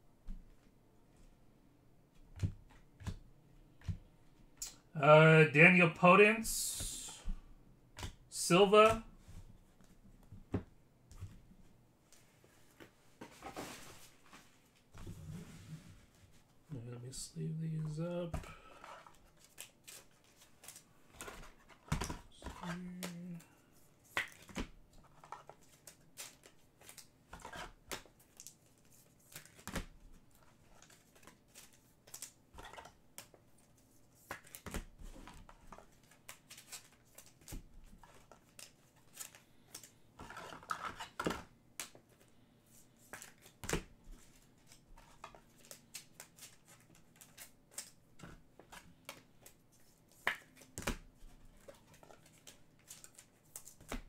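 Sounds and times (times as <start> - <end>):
cards and plastic sleeves rustling: 3.8 - 7.4, 8.0 - 10.0, 12.1 - 54.0.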